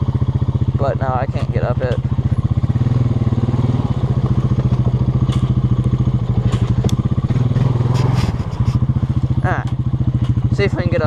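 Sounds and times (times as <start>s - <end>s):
quad bike engine puttering: 0.0s - 11.0s.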